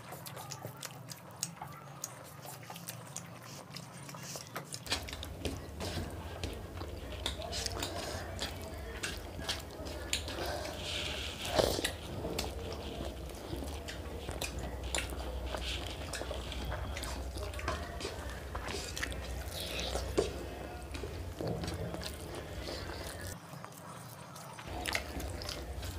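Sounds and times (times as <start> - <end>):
chewing with wet smacks: 0.0 - 25.9
fingers squishing rice: 0.0 - 25.9.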